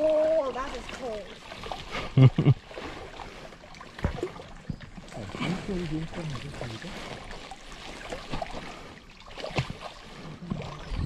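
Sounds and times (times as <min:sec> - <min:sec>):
person wading through water: 0:00.0 - 0:11.0
sharp water splash: 0:00.0 - 0:11.0.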